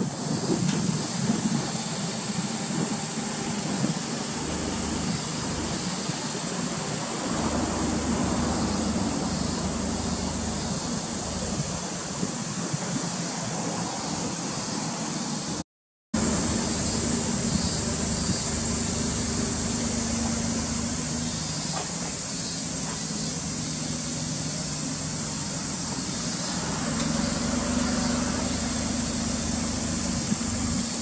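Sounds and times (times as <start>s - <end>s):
constant hiss: 0.0s - 15.6s, 16.2s - 31.0s
distant road traffic rumble: 0.0s - 15.6s, 16.2s - 31.0s.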